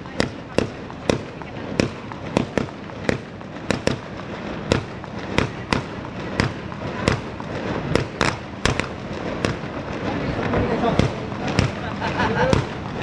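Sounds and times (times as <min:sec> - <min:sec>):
sharp firework bangs: 0:00.0 - 0:13.0.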